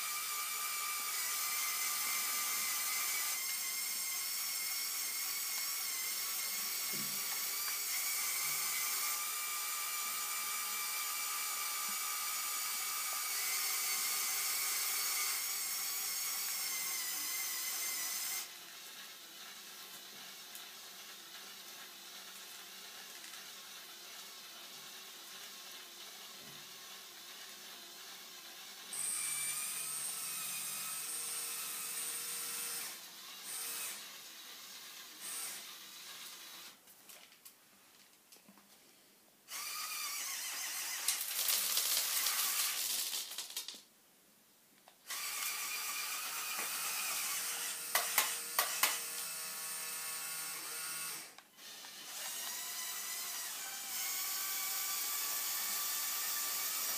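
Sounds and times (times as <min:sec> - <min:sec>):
toy excavator motors whirring: 0:00.0 - 0:36.8, 0:39.5 - 0:43.8, 0:45.0 - 0:56.9.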